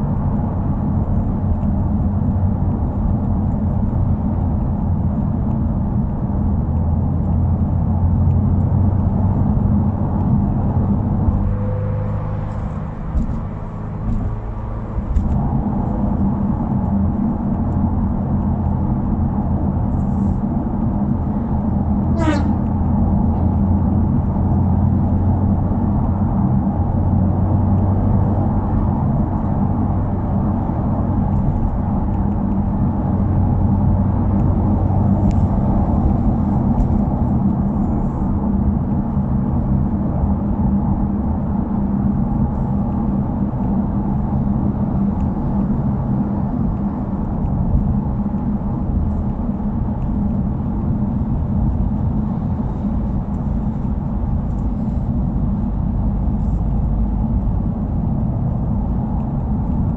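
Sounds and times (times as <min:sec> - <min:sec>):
car engine and exhaust running: 0:00.0 - 0:59.9
road noise: 0:00.0 - 0:59.9.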